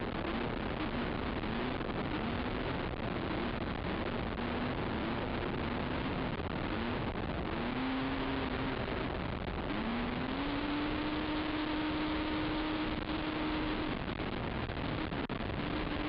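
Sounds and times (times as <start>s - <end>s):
atv engine running hard: 0.0s - 16.0s
track noise: 0.0s - 16.0s.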